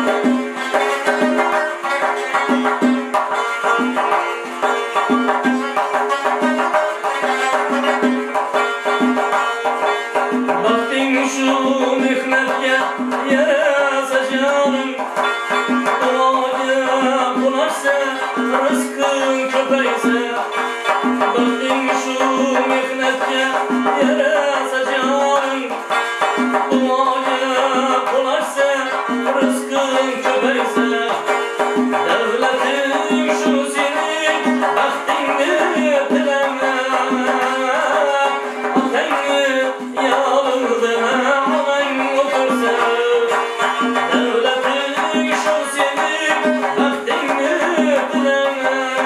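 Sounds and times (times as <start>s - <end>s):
hand drum percussion: 0.0s - 49.0s
man singing: 0.0s - 49.0s
plucked lute: 0.0s - 49.0s.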